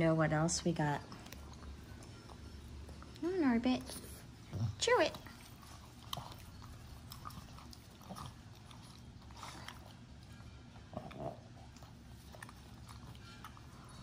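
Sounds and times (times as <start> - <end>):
dog chewing: 0.5 - 14.0.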